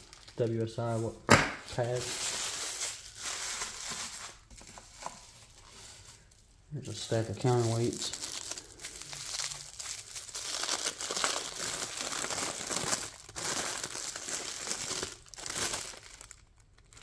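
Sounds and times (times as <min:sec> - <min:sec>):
packaging crinkling: 0:00.0 - 0:17.0.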